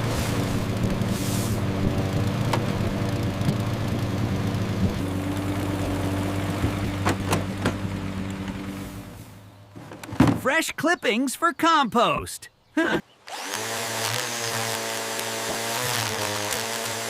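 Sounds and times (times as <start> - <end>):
ride-on lawn mower engine: 0.0 - 10.8, 12.9 - 17.0.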